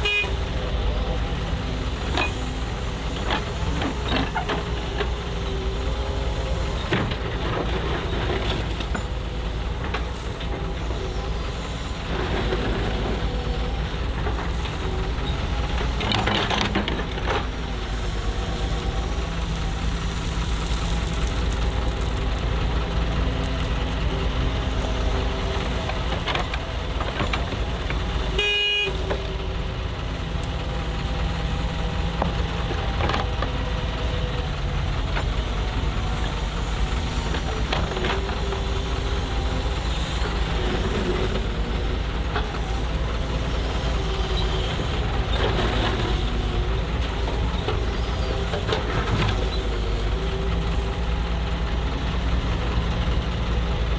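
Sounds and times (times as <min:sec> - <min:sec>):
dump truck engines: 0:00.0 - 0:53.9
excavator engine: 0:00.0 - 0:53.9.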